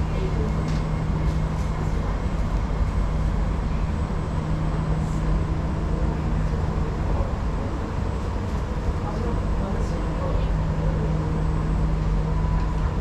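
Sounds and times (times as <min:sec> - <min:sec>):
stationary train humming: 0:00.0 - 0:13.0.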